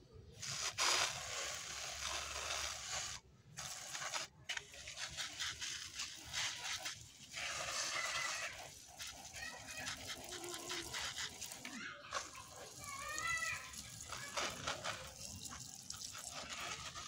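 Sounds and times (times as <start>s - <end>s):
pressure sprayer hissing water spray: 0.4s - 17.0s.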